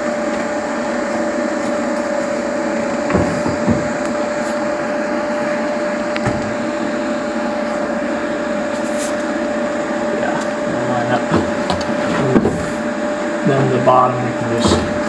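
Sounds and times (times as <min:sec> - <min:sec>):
mechanical drone with whine: 0:00.0 - 0:15.0.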